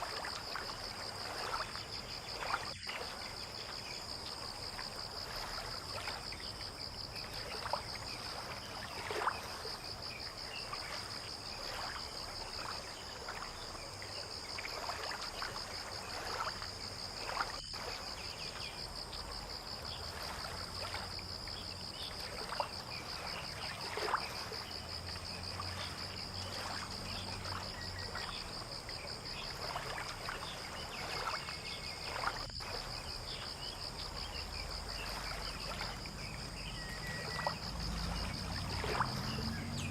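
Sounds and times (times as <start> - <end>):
insects trilling: 0.0 - 39.9
water lapping and splashing: 0.0 - 39.9.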